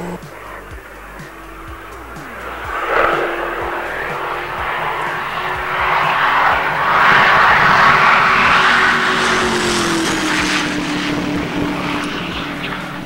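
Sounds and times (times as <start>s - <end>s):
car engine passing at high speed: 0.0s - 13.0s.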